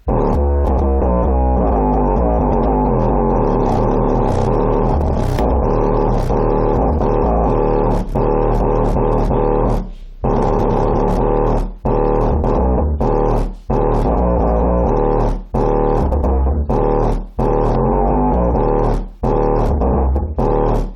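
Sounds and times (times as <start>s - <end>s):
bass-heavy music through subwoofer: 0.0s - 20.9s.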